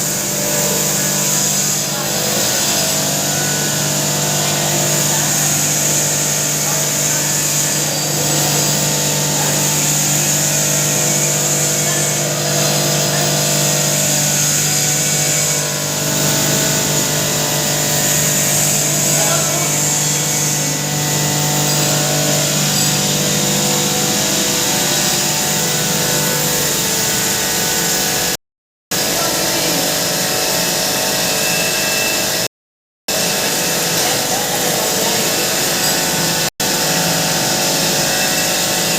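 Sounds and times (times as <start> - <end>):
grinding machine whirring: 0.0 - 32.5, 33.1 - 38.9.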